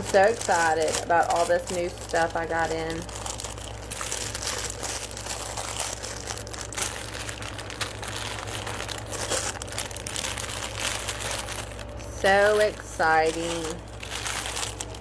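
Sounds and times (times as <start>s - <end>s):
plastic bags crinkling: 0.0s - 15.0s
steady low hum: 0.0s - 15.0s.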